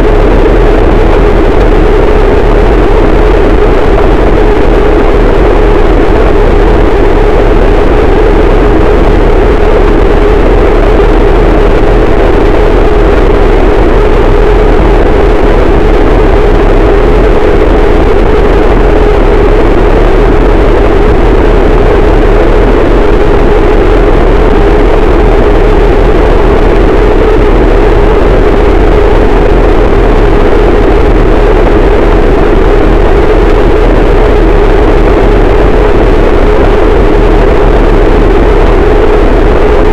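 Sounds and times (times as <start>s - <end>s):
distorted static noise: 0.0s - 39.9s
heavy low rumble: 0.0s - 39.9s.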